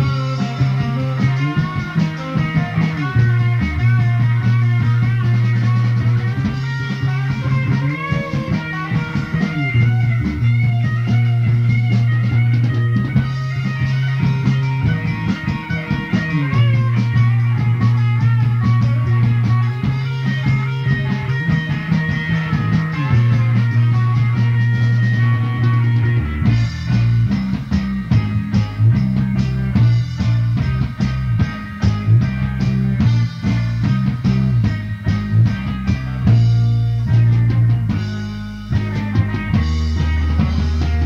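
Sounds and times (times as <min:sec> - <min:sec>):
bass guitar long notes: 0:00.0 - 0:41.0
electric guitar: 0:00.0 - 0:41.0.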